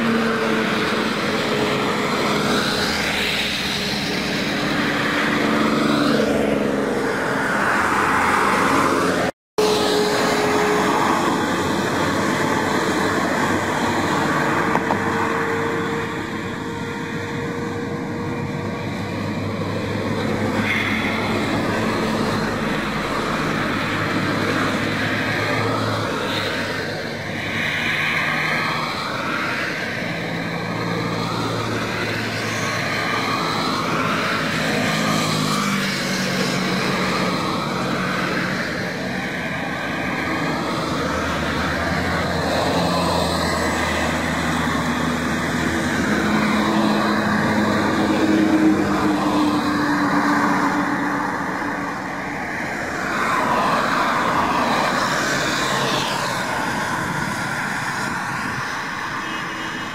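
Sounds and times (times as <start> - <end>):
road and wind noise: 0.0 - 59.9
vehicle engines passing: 0.0 - 59.9.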